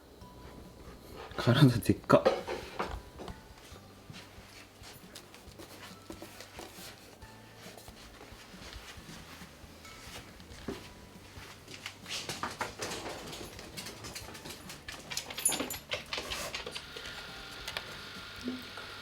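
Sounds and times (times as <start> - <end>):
kittens scuffling taps and rustles: 0.4 - 18.7.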